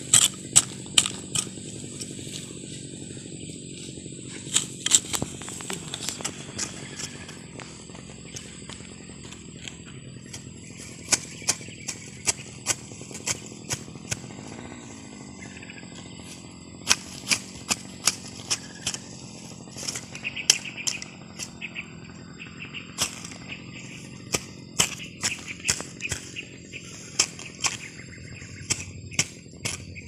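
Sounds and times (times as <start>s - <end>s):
hand hoe chopping into soil: 0.0s - 2.6s, 4.3s - 14.4s, 16.8s - 21.6s, 22.9s - 30.0s.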